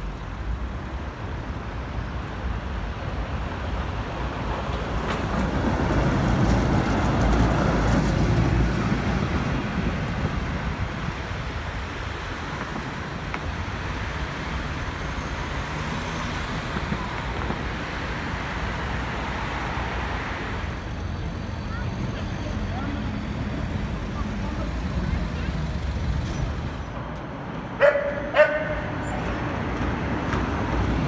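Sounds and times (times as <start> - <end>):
city road traffic hum: 0.0 - 31.0
tram wheels rumbling on rails: 2.9 - 15.6, 16.3 - 31.0.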